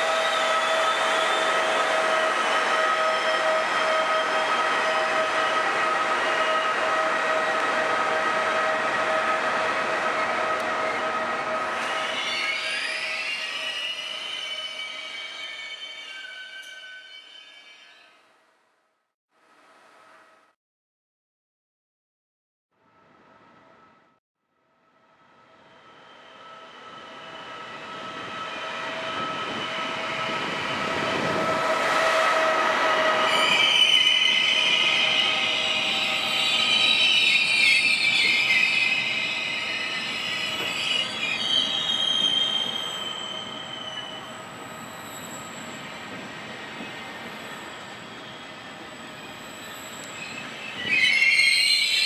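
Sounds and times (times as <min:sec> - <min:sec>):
train wheels and brakes squealing: 0:00.0 - 0:18.4, 0:25.4 - 0:52.0.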